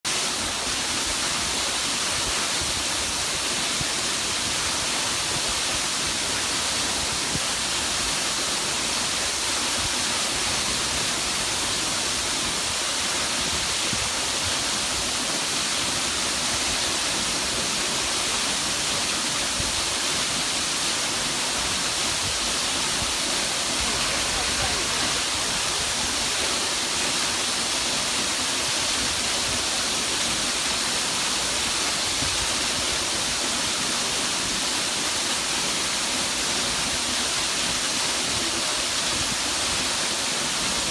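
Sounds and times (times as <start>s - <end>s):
waterfall rushing: 0.1s - 40.9s.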